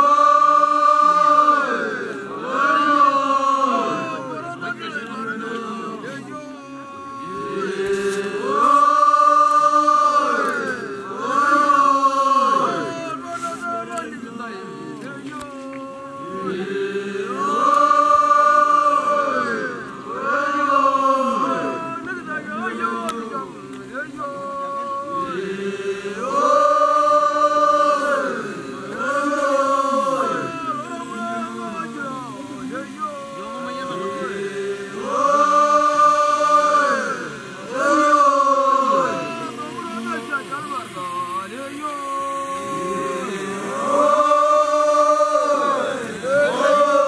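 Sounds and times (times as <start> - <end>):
group of voices singing: 0.0 - 47.0.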